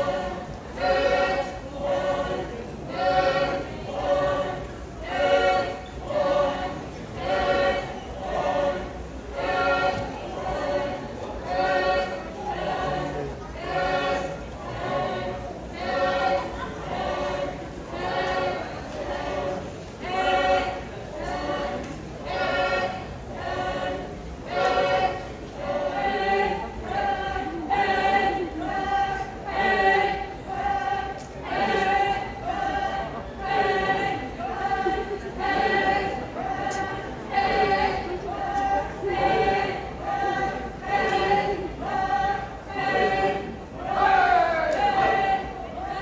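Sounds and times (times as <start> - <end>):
group singing dance chant: 0.0 - 46.0.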